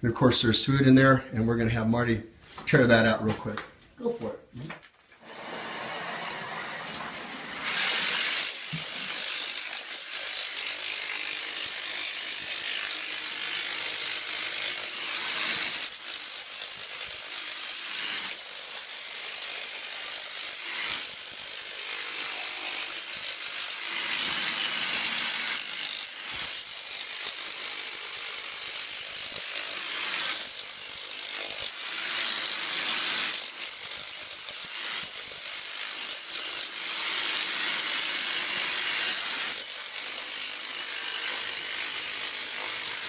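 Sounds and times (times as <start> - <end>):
demolition hammer chipping tile: 7.6 - 43.0.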